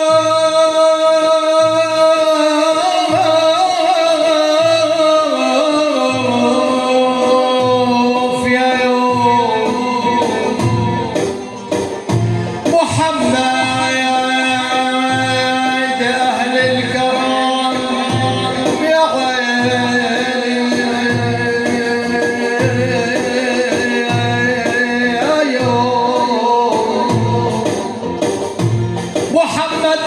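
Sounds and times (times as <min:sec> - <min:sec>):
man singing ornamented notes: 0:00.0 - 0:30.0
low drum beat: 0:01.4 - 0:30.0.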